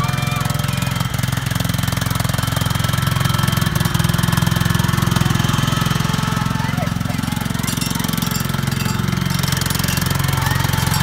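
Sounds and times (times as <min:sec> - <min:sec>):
riding mower engine running: 0:00.0 - 0:11.0.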